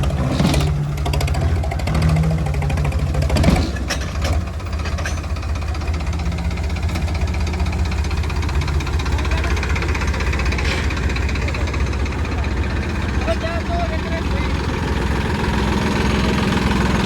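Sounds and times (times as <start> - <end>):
tractor diesel engines throbbing: 0.0 - 17.0.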